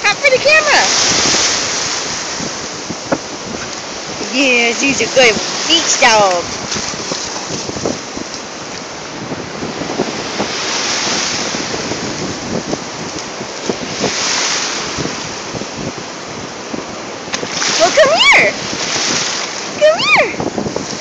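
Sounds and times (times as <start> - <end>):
ocean waves breaking: 0.0 - 21.0
wind buffeting microphone: 0.0 - 21.0.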